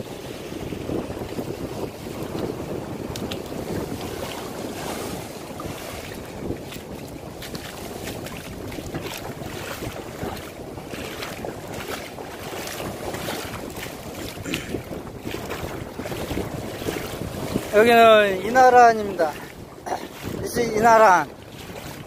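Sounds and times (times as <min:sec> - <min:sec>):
waves breaking on rocks: 0:00.0 - 0:22.0
wind buffeting microphone: 0:00.0 - 0:22.0.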